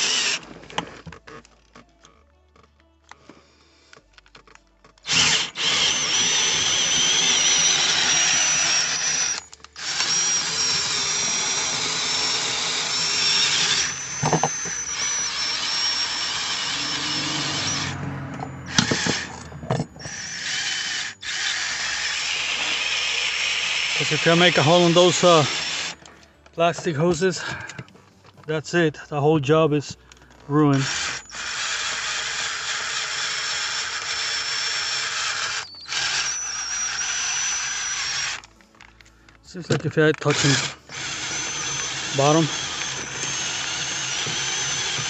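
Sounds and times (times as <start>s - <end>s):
cordless drill boring metal: 0.0s - 1.4s, 5.0s - 18.0s, 18.6s - 27.9s, 30.6s - 45.0s.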